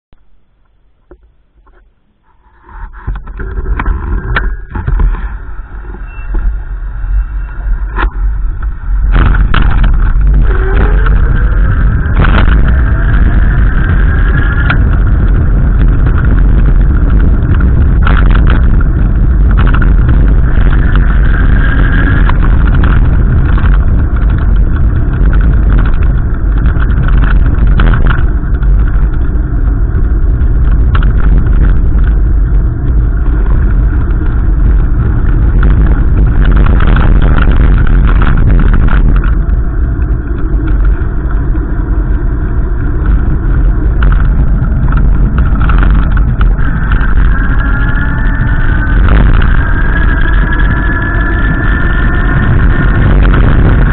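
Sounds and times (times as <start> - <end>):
faint rising whines: 0.2 - 53.9
wind buffeting microphone: 0.2 - 53.9.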